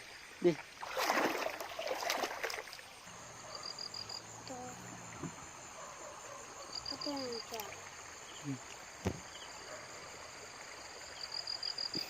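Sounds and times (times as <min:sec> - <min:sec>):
water splashing and trickling: 0:00.0 - 0:05.9, 0:06.6 - 0:12.0
insect whine with chirps: 0:00.0 - 0:12.0.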